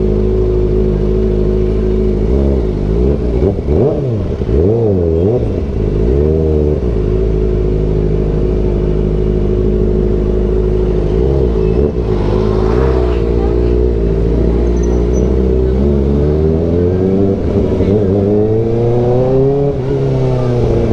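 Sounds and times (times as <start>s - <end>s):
motorcycle engine idling and revving: 0.0s - 20.9s.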